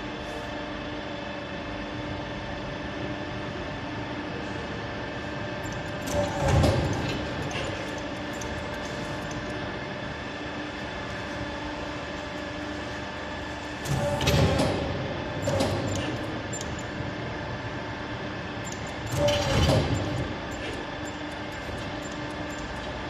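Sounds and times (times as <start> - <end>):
pipe bending machine hum: 0.0 - 23.0.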